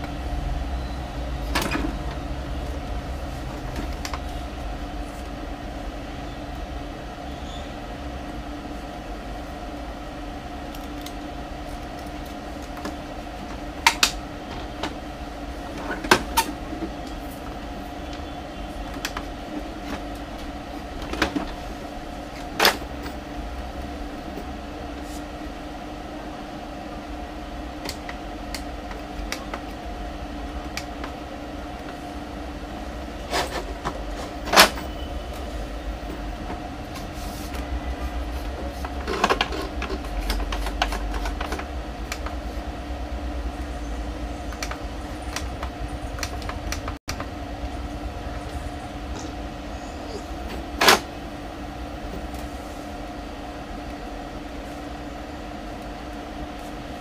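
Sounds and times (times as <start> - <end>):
steady mechanical hum: 0.0 - 57.0.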